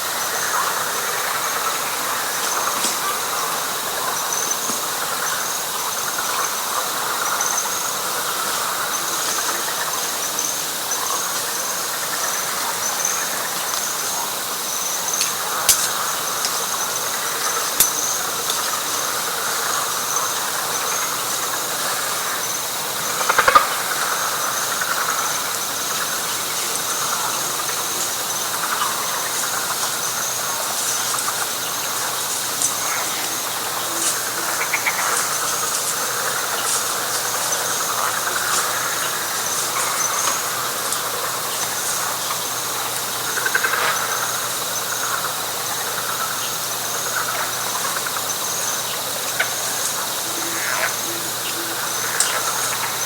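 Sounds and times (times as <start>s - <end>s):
frog chorus: 0.0s - 53.0s
high pulsing insect trill: 0.0s - 53.0s.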